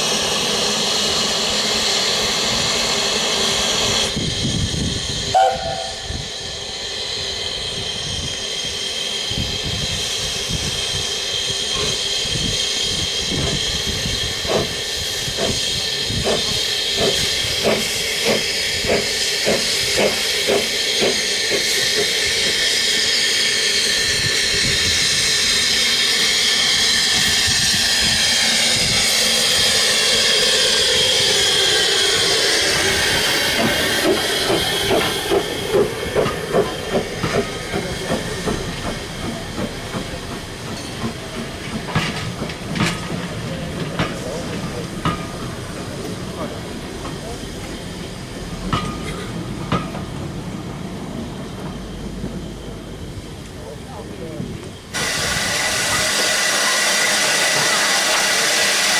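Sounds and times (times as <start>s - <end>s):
loud steam hiss: 0.0s - 58.9s
steam engine exhaust beats: 0.0s - 58.9s.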